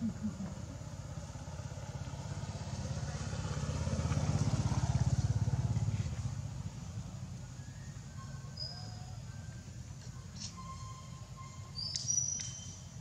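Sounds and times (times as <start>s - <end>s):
vehicle engine passing by: 0.0s - 10.9s.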